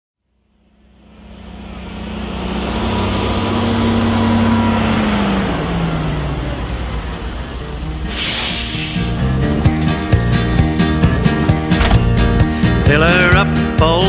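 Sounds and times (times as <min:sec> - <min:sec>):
heavy truck engine running: 0:00.3 - 0:14.0.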